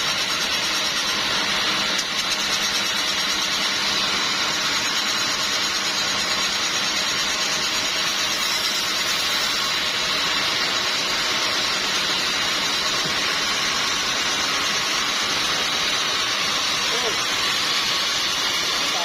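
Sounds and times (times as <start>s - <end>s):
sawmill machinery running: 0.0s - 19.0s.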